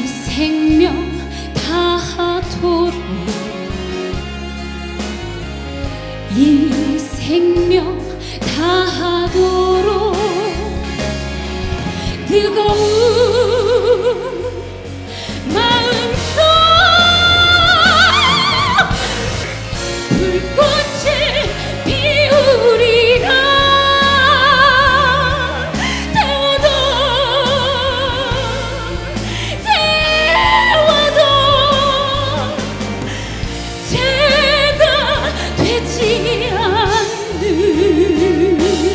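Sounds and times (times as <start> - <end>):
woman singing a slow ballad: 0.0 - 3.8, 6.3 - 10.8, 12.0 - 38.9
band accompaniment: 0.0 - 38.9.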